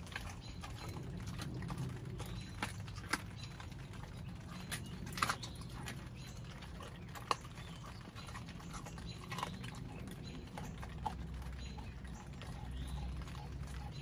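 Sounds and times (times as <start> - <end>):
dog chewing raw chicken: 0.0 - 14.0
wet ticks: 0.0 - 14.0.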